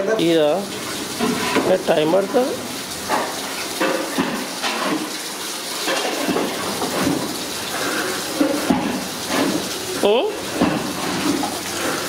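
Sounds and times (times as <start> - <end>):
water gushing into a metal pot: 0.0 - 12.0.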